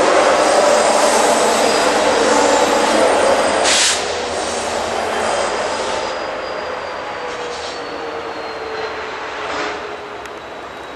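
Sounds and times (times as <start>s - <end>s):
freight cars rumbling on rails: 0.0s - 10.9s
train wheel squeals: 0.0s - 10.9s.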